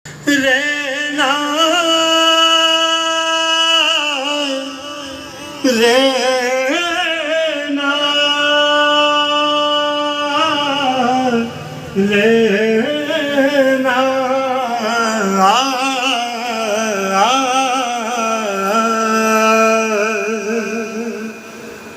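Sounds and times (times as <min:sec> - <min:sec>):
person singing wordless phrases: 0:00.1 - 0:21.5.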